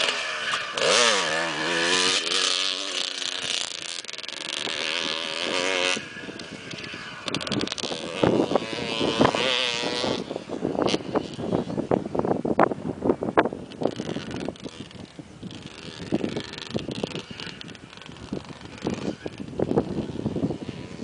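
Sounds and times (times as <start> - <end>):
motocross bike engine revving: 0.0 - 12.5, 13.2 - 21.0.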